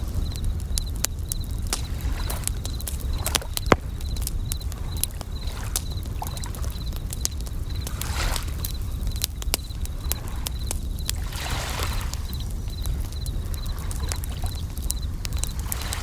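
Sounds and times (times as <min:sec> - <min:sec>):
campfire crackling and popping: 0:00.0 - 0:16.0
crickets chirping in high trills: 0:00.0 - 0:16.0.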